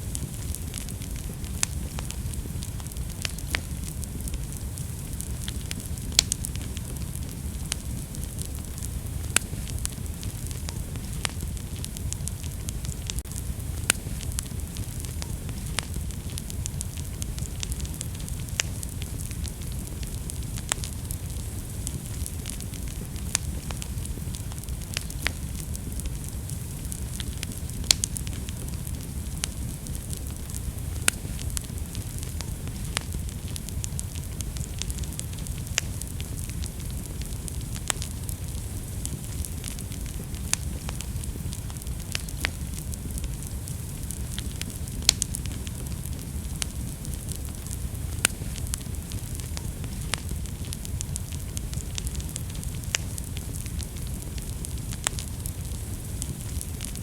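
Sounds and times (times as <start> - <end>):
fire crackling and popping: 0.0 - 57.0
wood fire rumble and hiss: 0.0 - 57.0.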